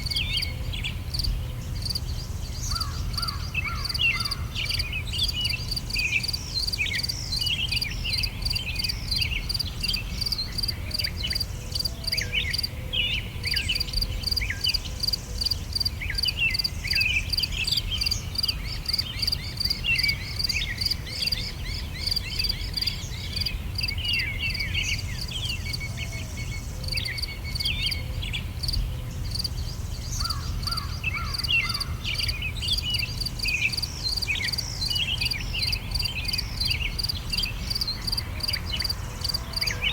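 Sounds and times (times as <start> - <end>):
songbirds singing: 0.0 - 39.9
insects chirping: 1.1 - 12.7, 13.5 - 28.0, 28.6 - 39.9.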